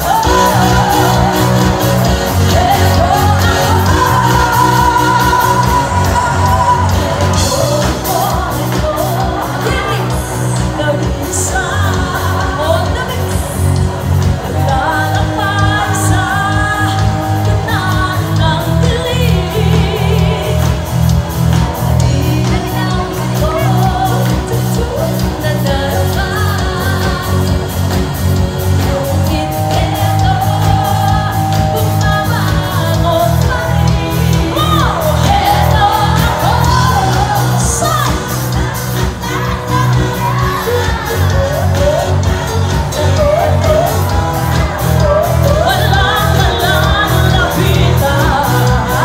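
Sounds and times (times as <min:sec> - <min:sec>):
women singing: 0:00.0 - 0:49.0.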